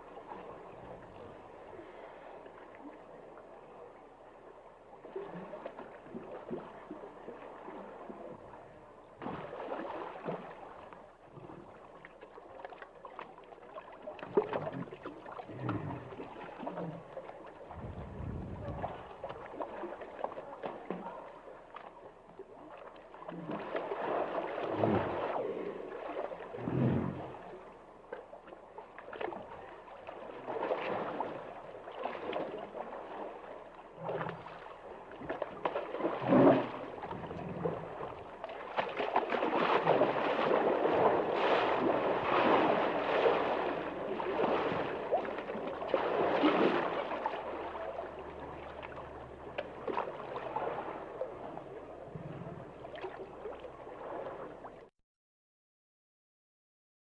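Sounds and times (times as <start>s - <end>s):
water sloshing and gurgling: 0.0s - 54.9s.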